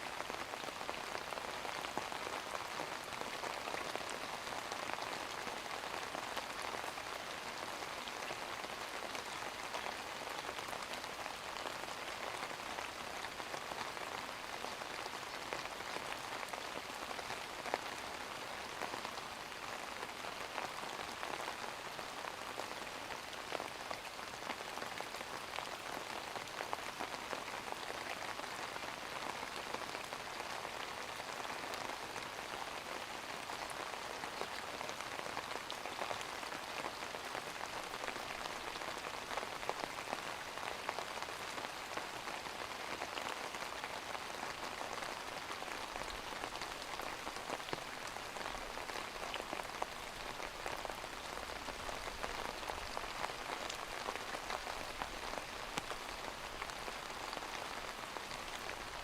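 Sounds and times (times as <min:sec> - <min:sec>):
rain on a hard surface: 0:00.0 - 0:59.0.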